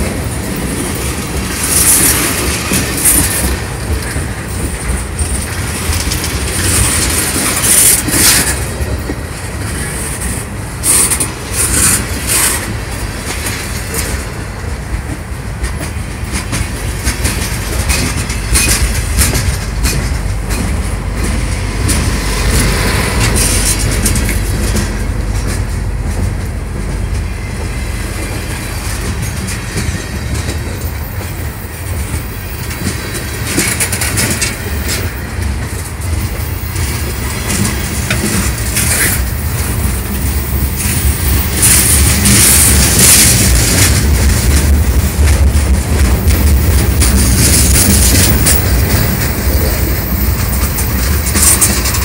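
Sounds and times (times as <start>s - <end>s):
train cars clanking: 0.0s - 52.0s
train wheels rumbling on rail: 0.0s - 52.0s.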